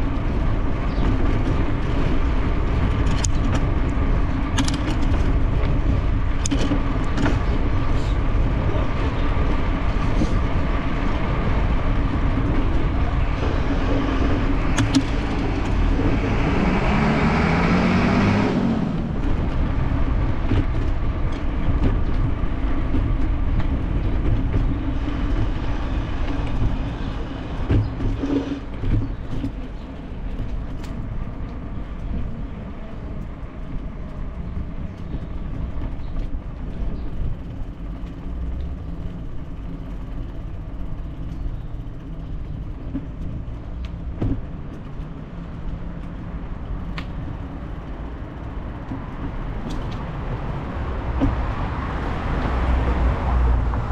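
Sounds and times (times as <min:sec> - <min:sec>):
motor vehicle passing: 0:00.0 - 0:53.9
wind and road noise: 0:00.0 - 0:53.9.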